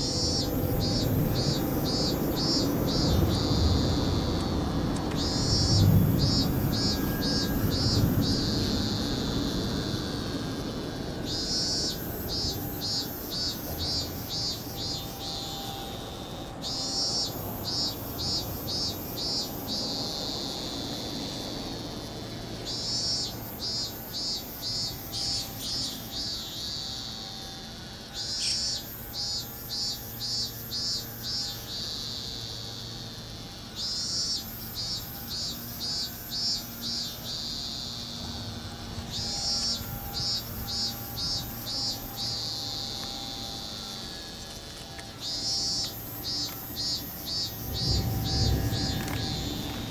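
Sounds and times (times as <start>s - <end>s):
cicada singing: 0.0s - 49.9s.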